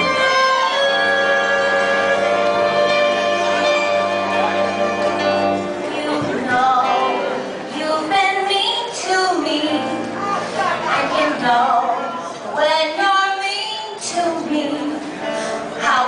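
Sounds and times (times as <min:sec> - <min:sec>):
big band playing: 0:00.0 - 0:16.0
person singing: 0:00.0 - 0:16.0.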